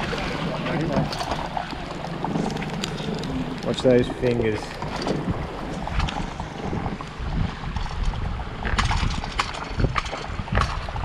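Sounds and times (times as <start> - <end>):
fish thrashing and splashing: 0.0 - 11.0
wind rumbling on microphone: 0.0 - 11.0.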